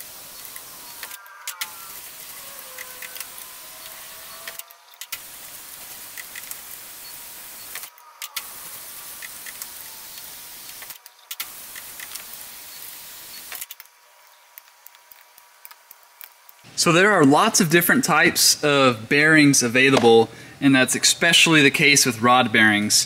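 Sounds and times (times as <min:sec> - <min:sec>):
steady shop hiss: 0:00.0 - 0:23.0.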